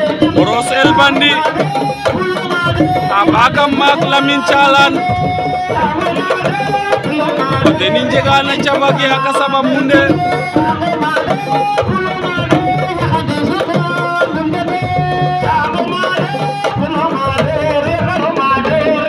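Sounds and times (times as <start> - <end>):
hand drums playing: 0.0 - 19.0
person singing: 0.0 - 19.0.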